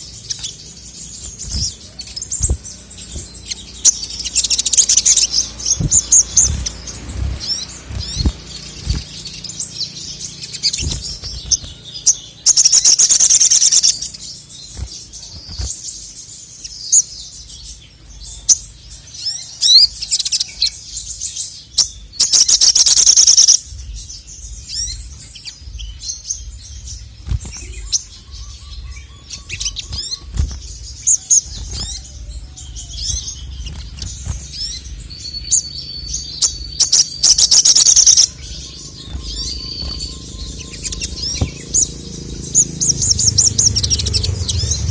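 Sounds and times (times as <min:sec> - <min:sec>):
bird rattling trills: 0:00.0 - 0:16.0, 0:24.6 - 0:44.9
bird chirps and twitters: 0:00.0 - 0:44.9.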